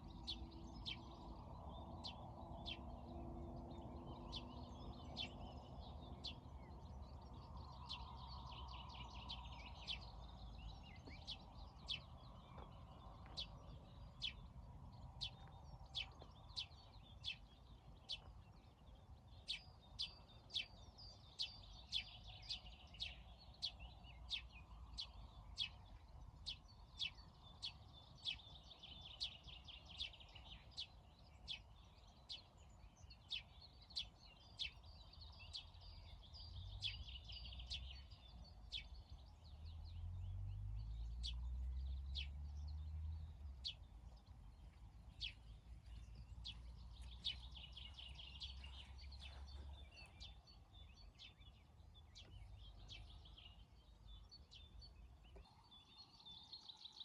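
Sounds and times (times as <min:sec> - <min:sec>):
birds chirping: 0:00.0 - 0:57.0
faint bird twittering: 0:04.2 - 0:57.0.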